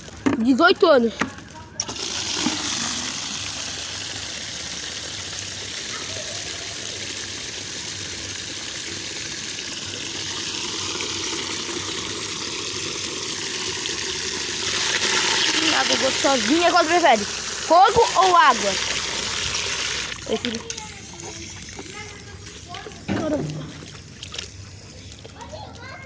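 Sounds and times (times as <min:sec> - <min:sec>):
water filling a container: 0:01.8 - 0:25.2.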